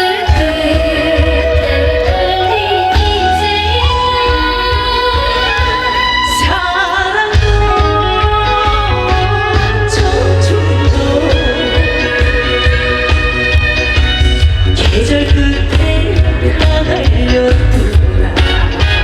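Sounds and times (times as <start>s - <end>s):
woman singing pop song: 0.0s - 13.7s, 14.7s - 19.0s
band with heavy bass beat: 0.0s - 19.0s.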